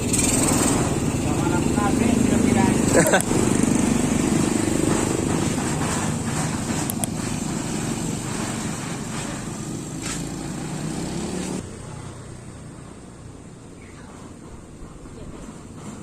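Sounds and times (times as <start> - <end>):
small motorcycle engine running: 0.0 - 13.7.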